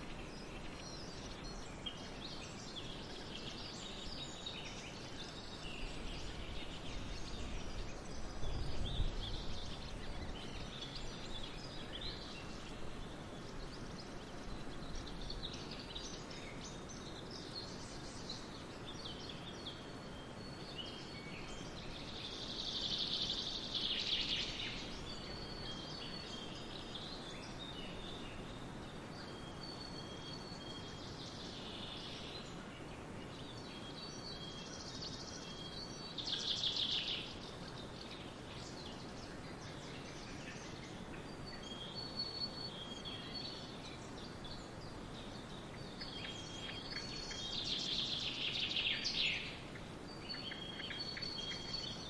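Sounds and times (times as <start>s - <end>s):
background hiss: 0.0s - 52.0s
birds singing: 0.0s - 52.0s.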